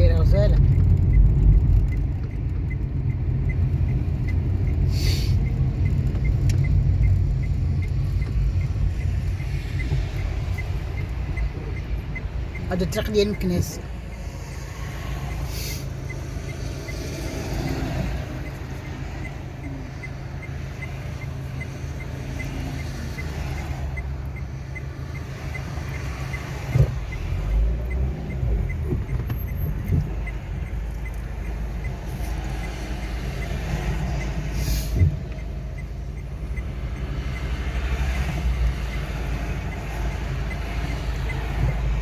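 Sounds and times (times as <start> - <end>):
faint rapid ticking: 0.0 - 42.0.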